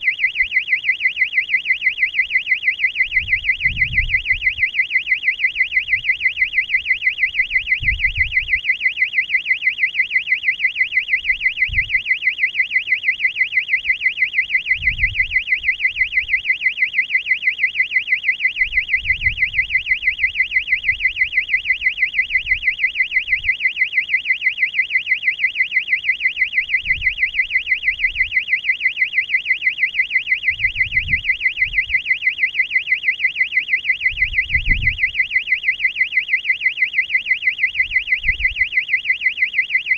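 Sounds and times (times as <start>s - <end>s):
electronic buzzer warbling alarm: 0.0s - 39.9s.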